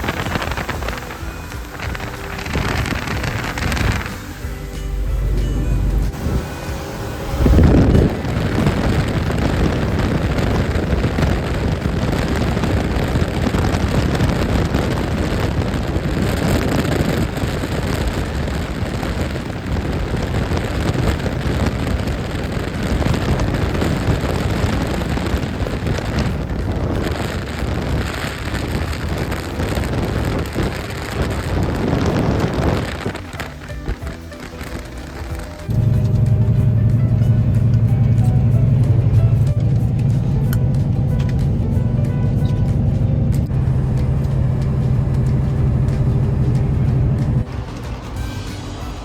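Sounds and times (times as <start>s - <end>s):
steady low rushing noise: 0.0s - 49.0s.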